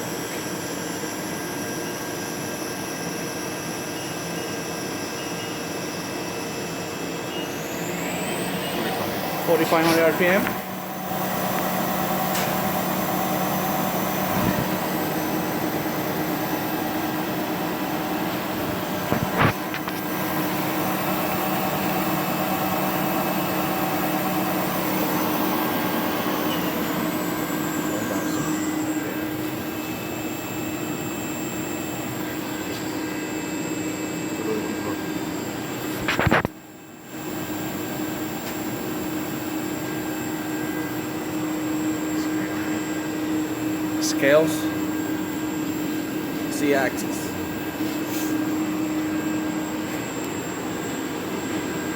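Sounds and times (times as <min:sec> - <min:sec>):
mill spindle humming with high whine: 0:00.0 - 0:51.9.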